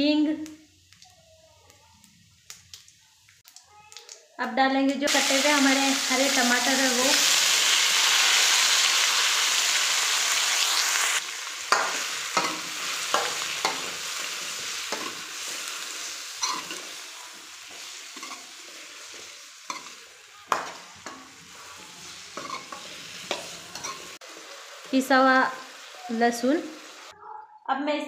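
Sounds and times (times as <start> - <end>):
tomatoes sizzling in hot oil: 0.0 - 27.1.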